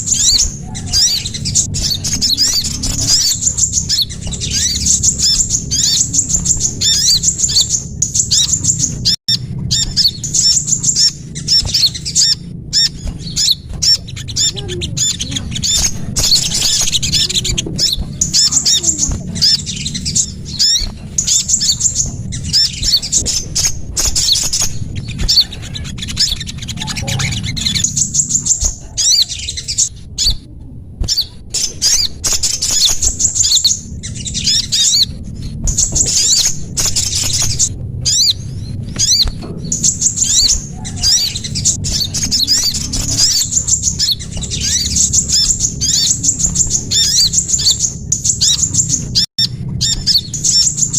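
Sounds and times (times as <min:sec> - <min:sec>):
songbirds chirping and twittering: 0:00.0 - 0:50.9
steady low hum: 0:00.0 - 0:50.9.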